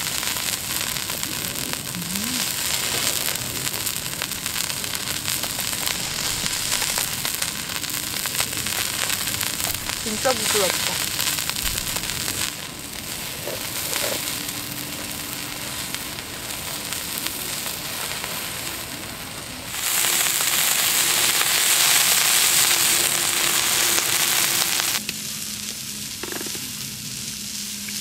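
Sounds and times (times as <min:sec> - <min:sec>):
meat sizzling on grill plate: 0:00.0 - 0:28.0.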